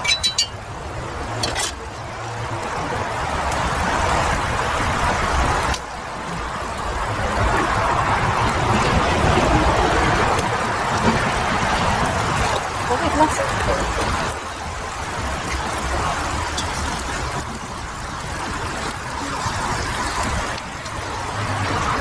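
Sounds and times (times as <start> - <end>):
rice boiling hard in a pot: 0.7 - 22.0.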